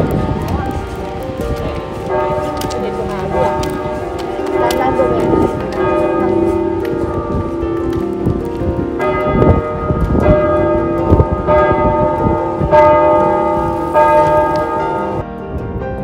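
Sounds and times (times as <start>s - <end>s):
church bells pealing: 0.0s - 15.3s
wind rumbling on microphone: 0.0s - 16.0s.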